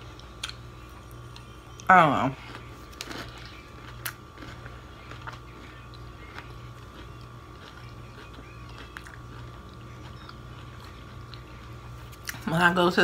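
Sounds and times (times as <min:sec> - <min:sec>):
low electrical hum: 0:00.0 - 0:13.0
person chewing: 0:00.1 - 0:12.4.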